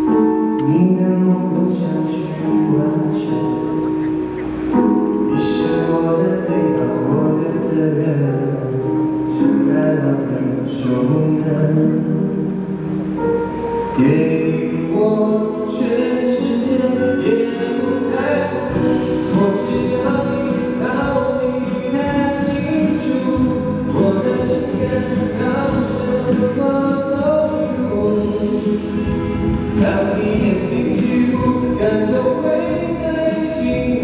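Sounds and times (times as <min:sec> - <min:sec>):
man singing: 0:00.0 - 0:04.0, 0:05.3 - 0:12.8, 0:13.9 - 0:34.0
acoustic guitar: 0:00.0 - 0:34.0.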